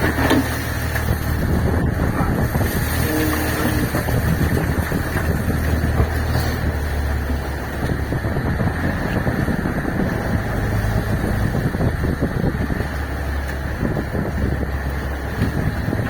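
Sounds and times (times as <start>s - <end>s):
boat engine humming: 0.0s - 16.0s
wind buffeting microphone: 0.0s - 16.0s.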